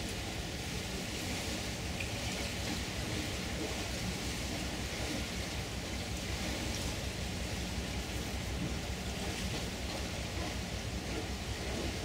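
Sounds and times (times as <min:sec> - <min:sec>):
river water rushing: 0:00.0 - 0:12.0
wind: 0:00.0 - 0:12.0.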